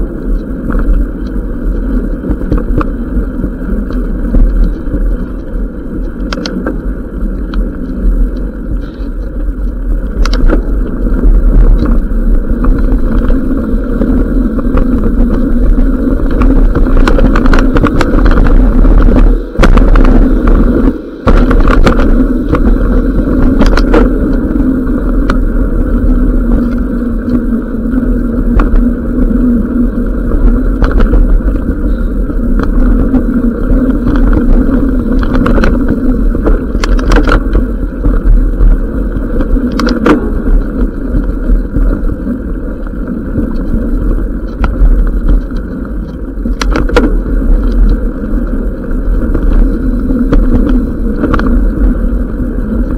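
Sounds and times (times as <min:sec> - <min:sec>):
bike clicks and rattles: 0:00.0 - 0:52.9
bike tyres rumbling on dirt trail: 0:00.0 - 0:52.9.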